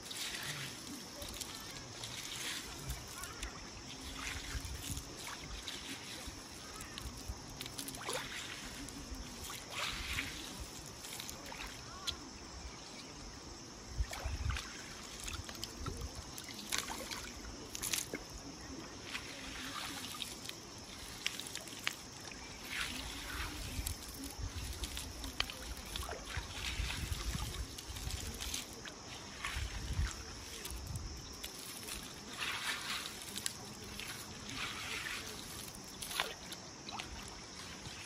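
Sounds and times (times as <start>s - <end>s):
shallow water sloshing and trickling: 0.0s - 38.0s
steady high hiss: 0.0s - 38.0s.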